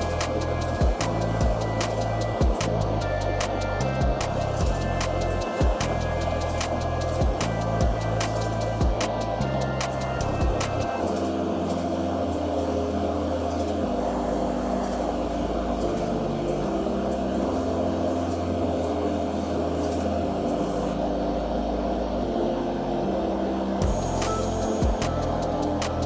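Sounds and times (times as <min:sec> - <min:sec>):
slow music with held chords: 0:00.0 - 0:26.0.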